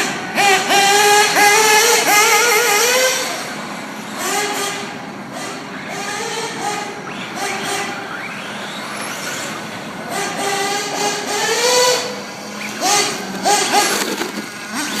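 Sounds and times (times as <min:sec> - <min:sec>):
remote control car motors whining: 0:00.0 - 0:15.0
tyres on the ground: 0:00.3 - 0:15.0.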